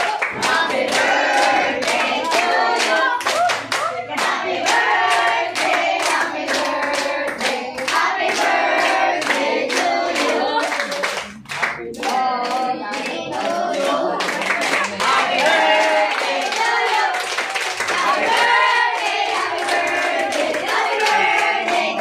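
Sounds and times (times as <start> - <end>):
group singing a celebration song: 0.0 - 22.0.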